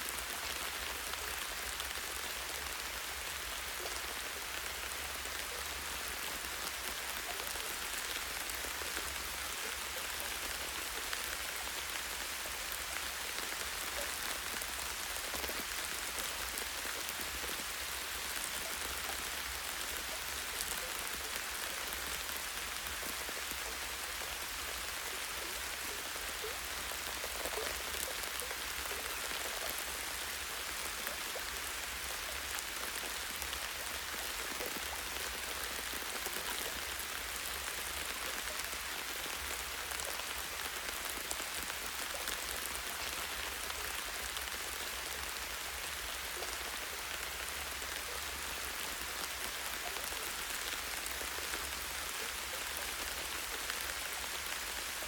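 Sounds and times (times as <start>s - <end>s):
light rain pattering on leaves: 0.0s - 55.0s.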